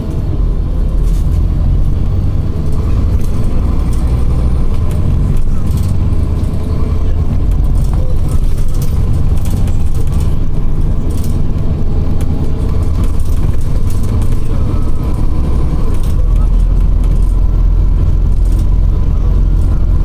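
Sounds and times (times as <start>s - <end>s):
bus engine and road rumble: 0.0s - 20.0s
interior rattles and clicks: 0.0s - 20.0s.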